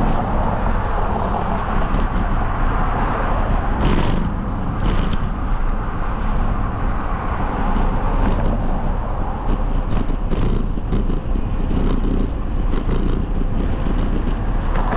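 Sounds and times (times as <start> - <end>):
bicycle road noise: 0.0 - 14.9
wind buffeting microphone: 0.0 - 14.9.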